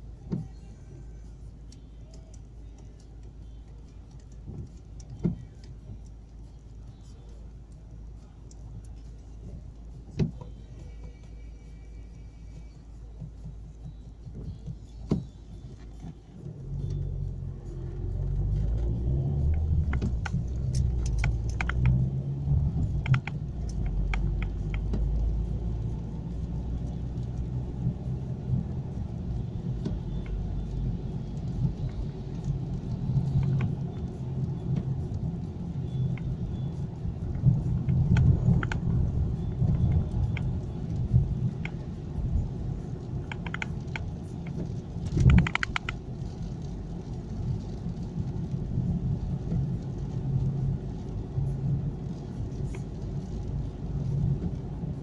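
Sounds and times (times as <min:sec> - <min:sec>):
engine and road noise: 0:00.0 - 0:55.0
interior rattles and clicks: 0:00.0 - 0:55.0.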